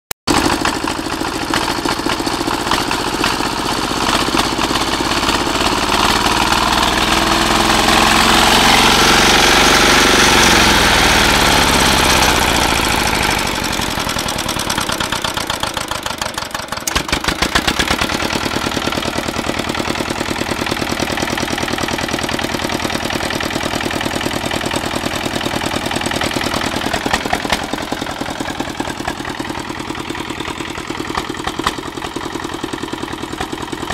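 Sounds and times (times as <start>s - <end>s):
tractor engine racing: 0.3s - 33.9s.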